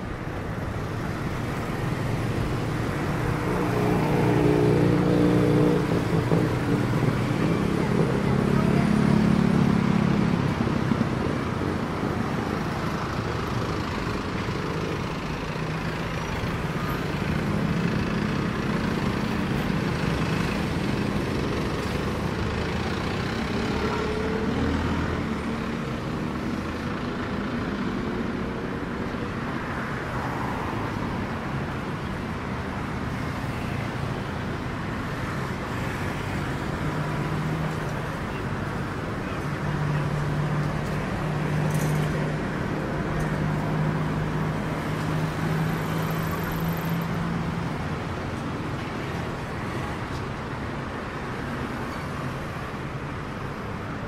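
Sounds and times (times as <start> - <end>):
road noise: 0.0 - 54.0
vehicle engines passing: 0.0 - 54.0.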